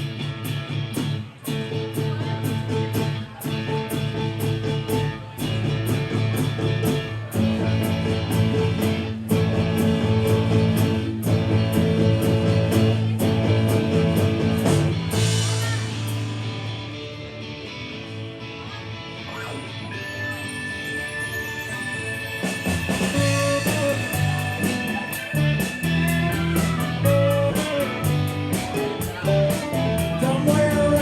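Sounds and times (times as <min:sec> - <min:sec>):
rock band playing: 0:00.0 - 0:31.0.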